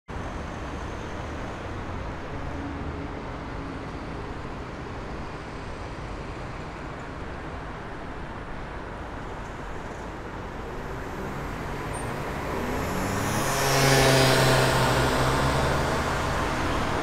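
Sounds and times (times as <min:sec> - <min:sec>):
road traffic hum: 0:00.1 - 0:17.0.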